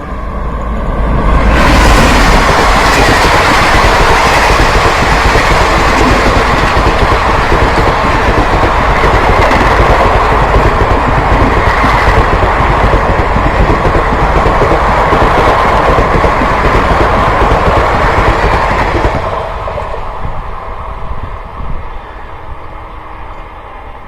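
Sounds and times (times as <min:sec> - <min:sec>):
train rushing over rails: 0:00.0 - 0:24.0.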